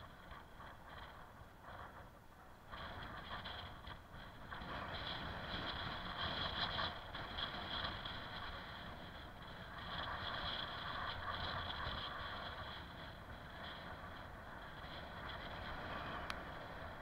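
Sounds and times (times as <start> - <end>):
bicycle tyres rolling on asphalt: 0.0 - 17.0
wind on microphone: 0.0 - 17.0.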